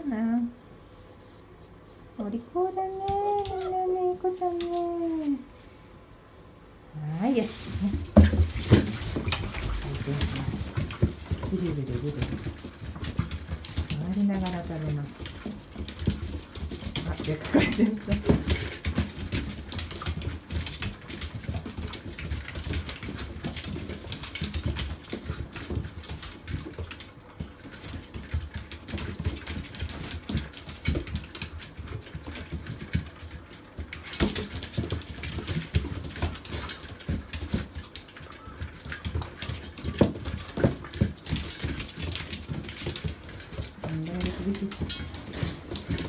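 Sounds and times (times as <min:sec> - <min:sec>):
paws pattering on floor: 0:00.4 - 0:05.4, 0:07.1 - 0:46.0
puppies crunching kibble: 0:07.1 - 0:46.0.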